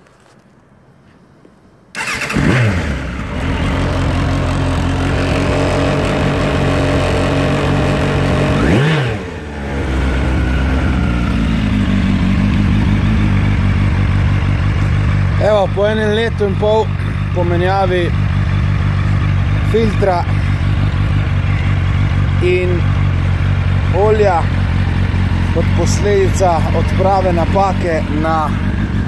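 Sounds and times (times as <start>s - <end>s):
motorcycle engine starting and idling: 1.9s - 29.0s.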